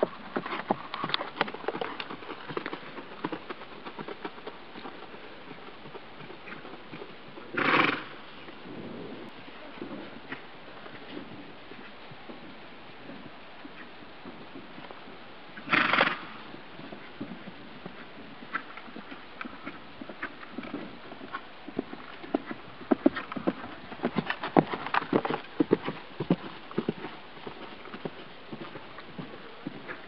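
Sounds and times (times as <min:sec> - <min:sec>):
hoofbeats on grass: 0:00.0 - 0:30.0.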